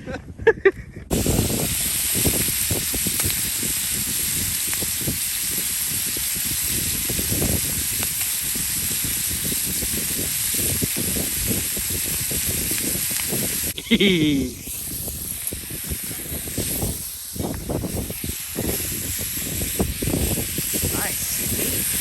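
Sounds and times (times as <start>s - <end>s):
wind buffeting microphone: 0.0s - 13.8s, 14.4s - 22.0s.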